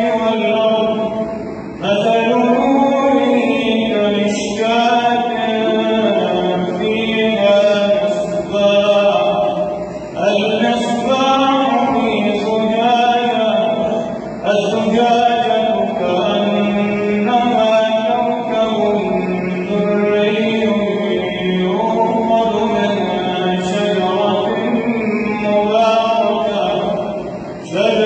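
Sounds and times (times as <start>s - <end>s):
man chanting recitation: 0.0s - 28.0s.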